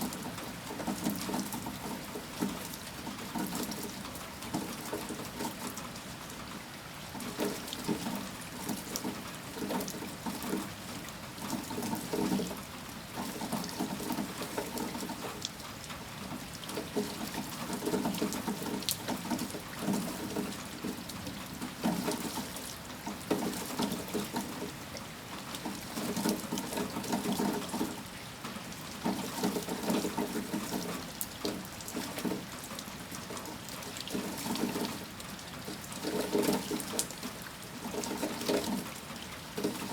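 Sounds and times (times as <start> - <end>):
heavy rain pouring: 0.0 - 39.9
sharp raindrops: 0.0 - 39.9.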